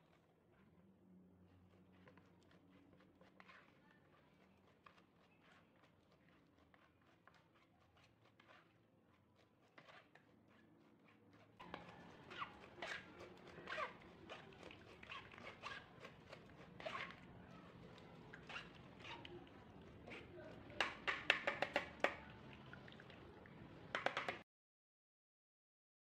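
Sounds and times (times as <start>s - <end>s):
spoon scraping a plastic sieve: 1.5s - 22.3s, 23.9s - 24.4s.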